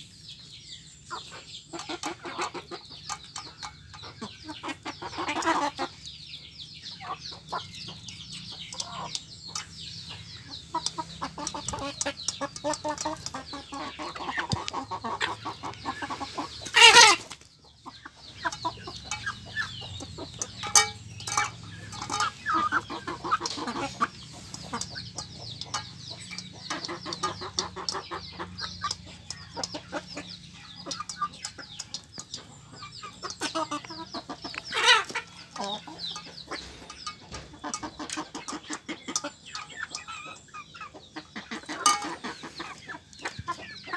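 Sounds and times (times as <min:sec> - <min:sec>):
chickens clucking and squabbling: 0:00.0 - 0:43.9.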